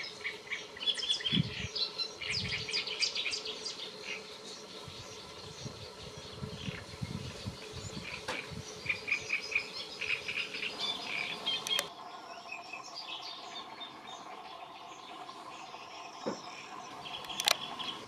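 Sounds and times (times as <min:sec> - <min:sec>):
warbler singing harsh chattering song: 0:00.0 - 0:18.0.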